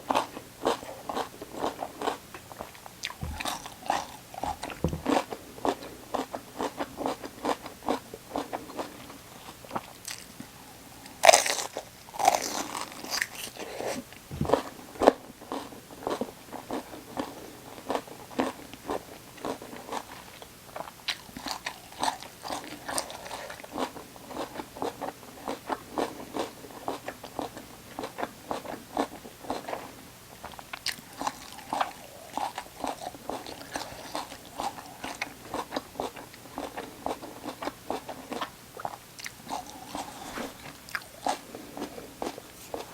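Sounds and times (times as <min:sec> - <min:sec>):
chewing crisp raw vegetables: 0:00.0 - 0:42.9.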